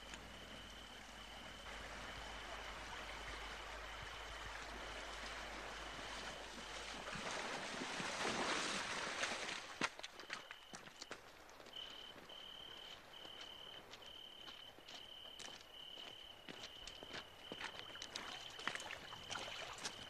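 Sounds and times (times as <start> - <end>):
people wading and splashing: 0.0 - 13.2, 17.0 - 20.0
river water flowing over gravel: 0.0 - 20.0.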